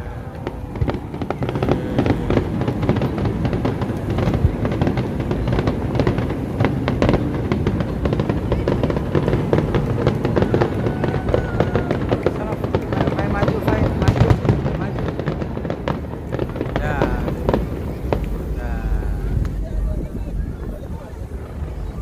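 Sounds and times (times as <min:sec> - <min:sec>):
fireworks bangs: 0:00.0 - 0:22.0
fireworks crackling: 0:00.0 - 0:22.0
low rumble: 0:00.0 - 0:22.0.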